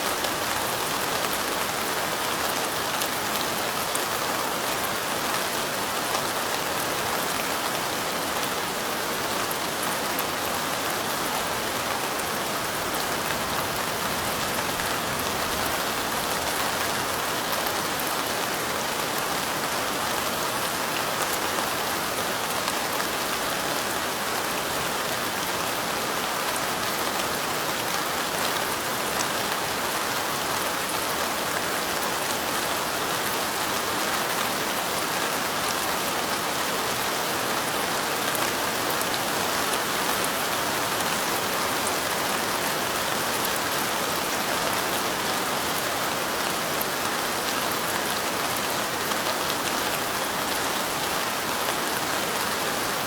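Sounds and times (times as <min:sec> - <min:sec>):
light rain falling: 0:00.0 - 0:53.0.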